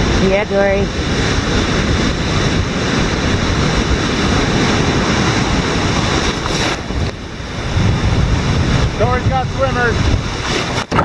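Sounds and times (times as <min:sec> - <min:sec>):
whitewater rapids rushing: 0:00.0 - 0:11.0
wind buffeting microphone: 0:00.0 - 0:11.0.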